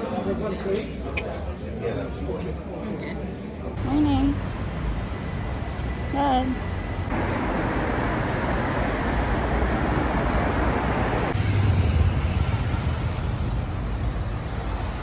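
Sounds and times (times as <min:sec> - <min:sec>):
road traffic rumble and hiss: 0:00.0 - 0:15.0.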